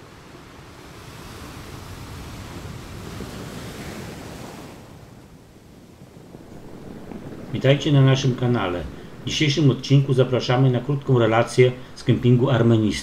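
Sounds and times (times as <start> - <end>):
sea waves washing ashore: 0.0 - 13.0
wind: 0.0 - 13.0.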